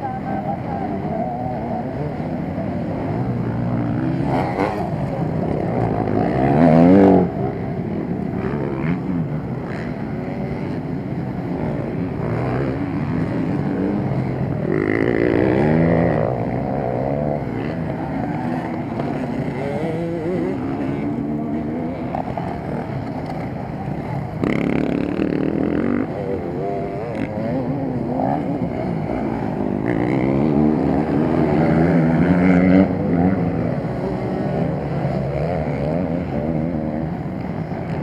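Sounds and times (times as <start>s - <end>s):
motorcycle engines revving: 0.0s - 38.0s.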